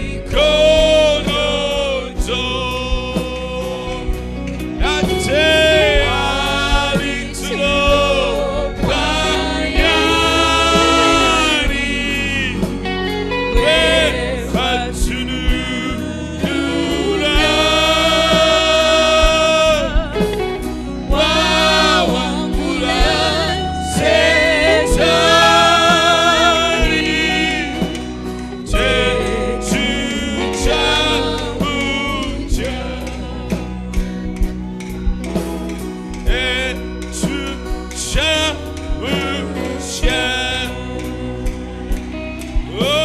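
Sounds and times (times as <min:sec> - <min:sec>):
low instrumental backing: 0:00.0 - 0:43.0
person singing gospel with vibrato: 0:00.0 - 0:43.0.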